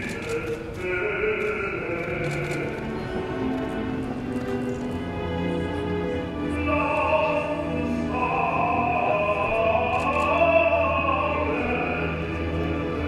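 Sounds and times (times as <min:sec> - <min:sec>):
operatic high voice singing: 0:00.0 - 0:03.6, 0:05.4 - 0:13.0.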